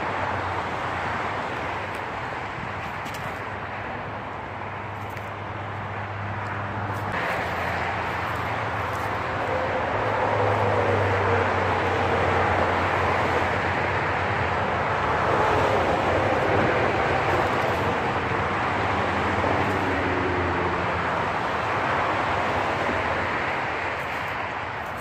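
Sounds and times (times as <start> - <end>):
motor vehicle hum: 0.0 - 25.0.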